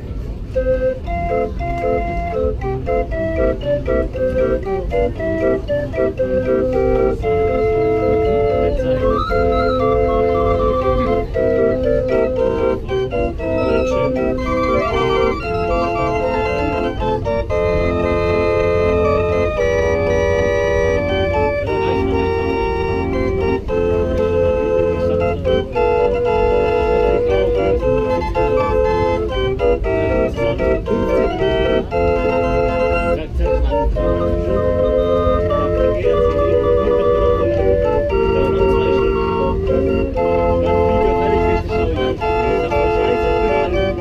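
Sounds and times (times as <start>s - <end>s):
barrel organ melody: 0.0s - 44.0s.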